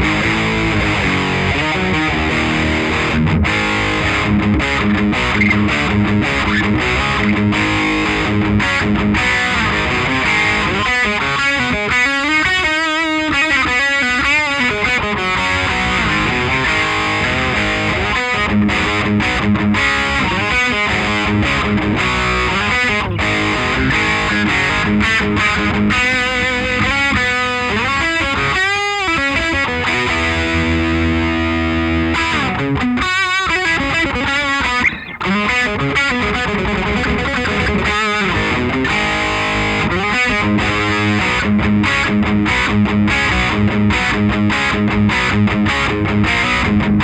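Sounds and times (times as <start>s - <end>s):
distorted electric guitar riffs: 0.0s - 47.0s.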